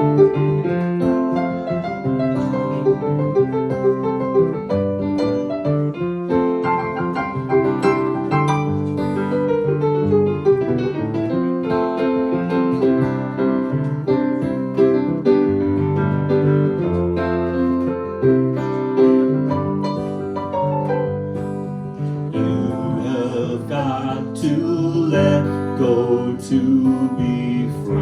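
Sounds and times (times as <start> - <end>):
solo piano ballad: 0.0 - 28.0.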